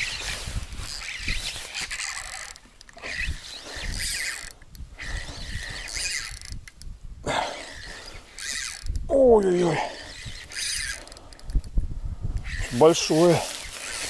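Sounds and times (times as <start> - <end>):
fishing reel gears whirring: 0.0 - 11.7, 12.4 - 14.0.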